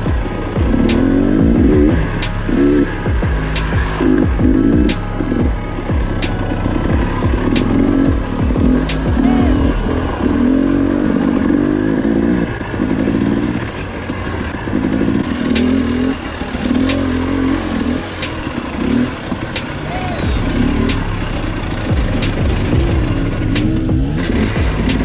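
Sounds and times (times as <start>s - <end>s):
dirt bike engine revving: 0.0s - 19.1s, 20.2s - 25.0s.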